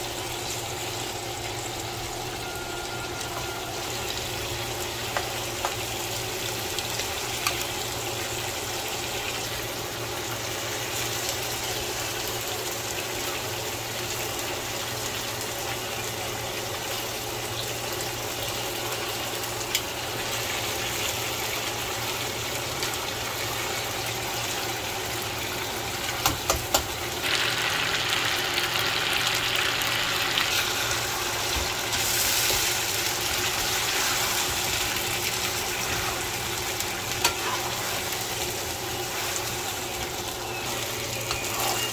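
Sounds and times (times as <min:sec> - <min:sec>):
chicken sizzling in oil: 0:00.0 - 0:41.9.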